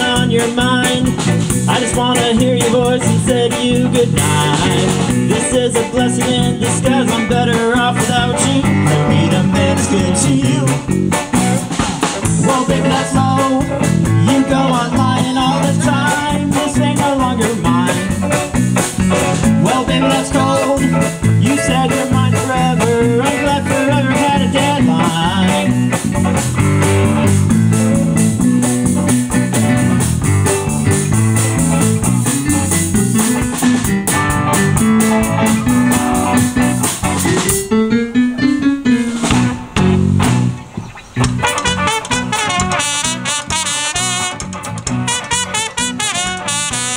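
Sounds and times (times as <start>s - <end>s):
bass: 0.0s - 46.9s
drums: 0.0s - 46.9s
electric guitar: 0.0s - 46.9s
keyboard: 0.0s - 46.9s.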